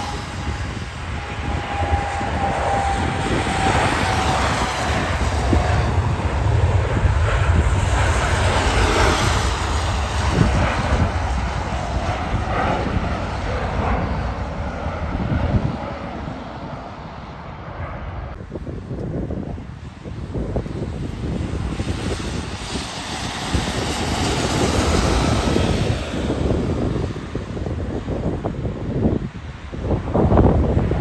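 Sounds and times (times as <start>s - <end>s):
jet engine whine: 0.0s - 31.0s
jet engines rumbling: 0.0s - 31.0s.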